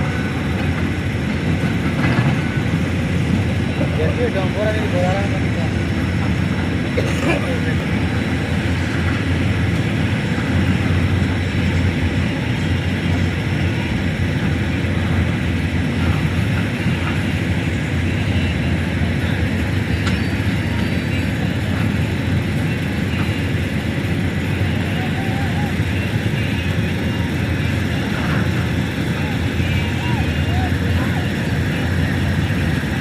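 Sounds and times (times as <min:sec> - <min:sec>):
excavator engine rumbling: 0:00.0 - 0:33.0.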